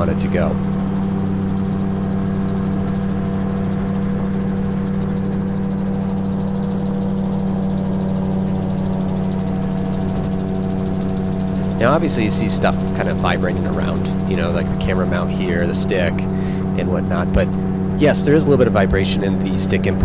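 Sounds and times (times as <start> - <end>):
aircraft engine droning: 0.0 - 20.0.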